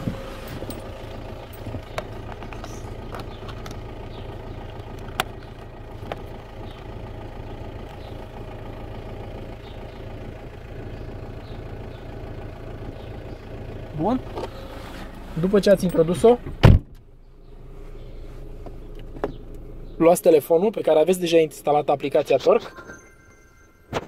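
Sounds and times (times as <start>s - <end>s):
car engine idling: 0.0s - 23.8s.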